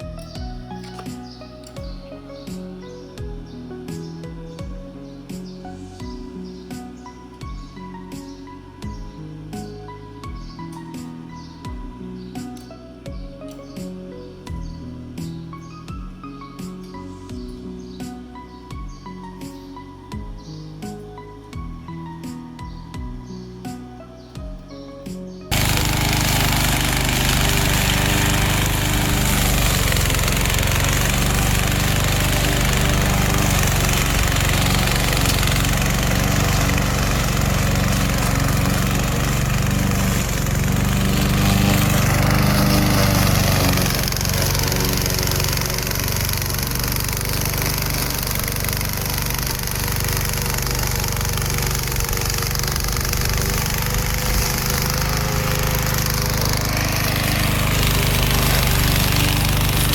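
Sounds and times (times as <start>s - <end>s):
lawn mower droning: 0.0s - 59.9s.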